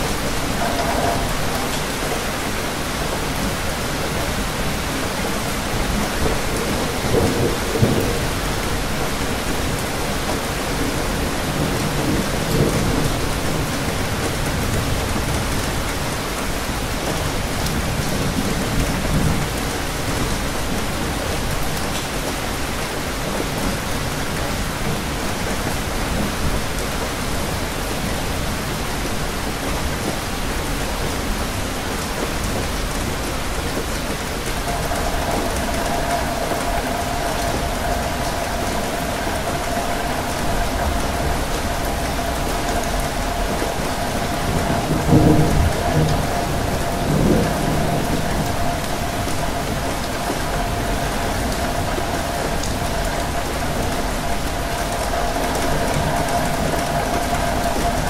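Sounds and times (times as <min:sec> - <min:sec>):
thunder rumbles: 0:00.0 - 0:22.2, 0:32.2 - 0:58.0
steady rain hiss: 0:00.0 - 0:58.0.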